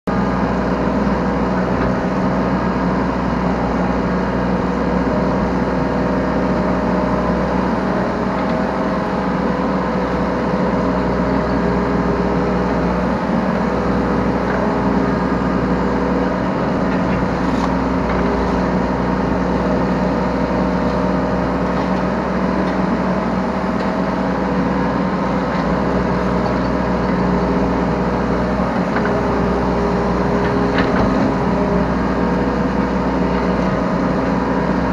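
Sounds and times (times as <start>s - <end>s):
diesel engine running steadily: 0.0s - 34.9s.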